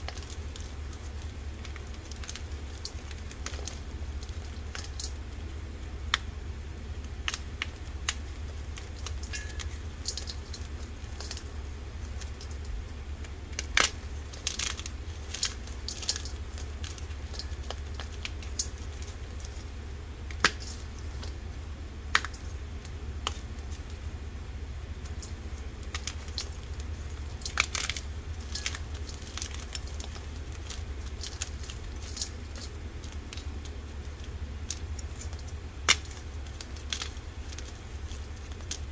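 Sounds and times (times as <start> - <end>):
chalk crunching and snapping: 0.0 - 38.9
steady low hum: 0.0 - 38.9.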